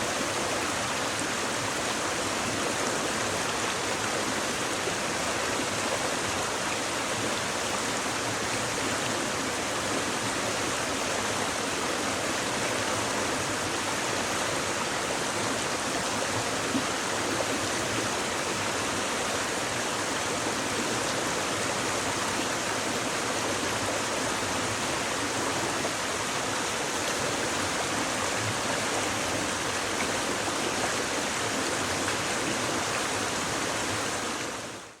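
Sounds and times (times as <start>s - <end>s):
stream babbling over stones: 0.0s - 35.0s.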